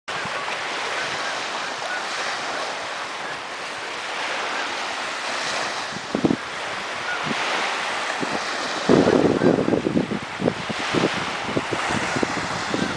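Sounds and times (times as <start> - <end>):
small waves washing onto beach: 0.1 - 12.9
wind rushing over microphone: 0.1 - 12.9.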